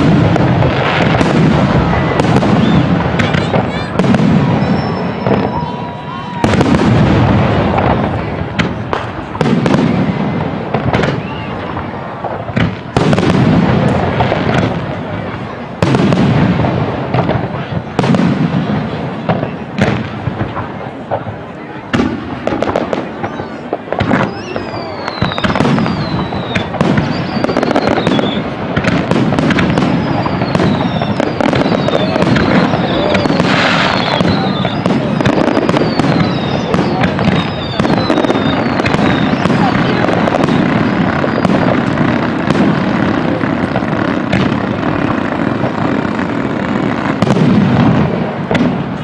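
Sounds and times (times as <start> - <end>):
fireworks bursting with crackling echo: 0.0 - 49.0.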